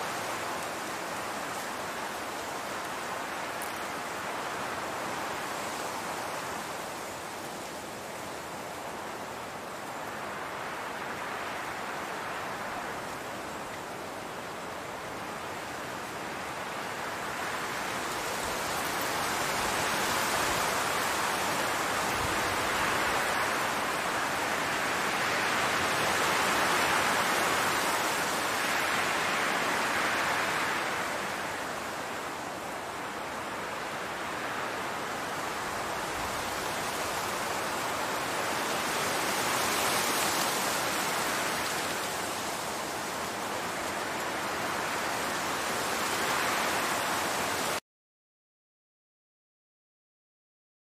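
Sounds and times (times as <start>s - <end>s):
wind blowing through tall grass: 0.0s - 47.8s.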